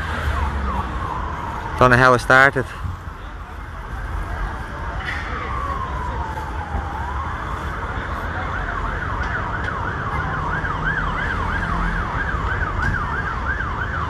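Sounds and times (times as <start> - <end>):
siren yelping: 0.0 - 14.0.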